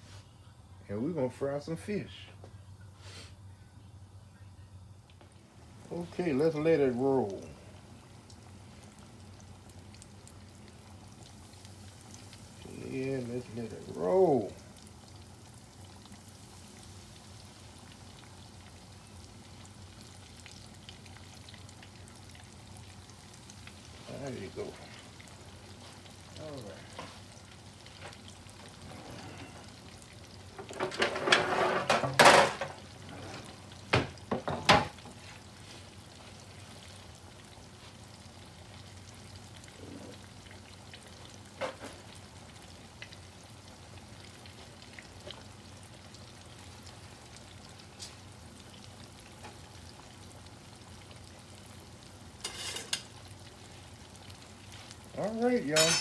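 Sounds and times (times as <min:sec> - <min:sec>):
fish deep-frying in oil: 0:05.0 - 0:56.0.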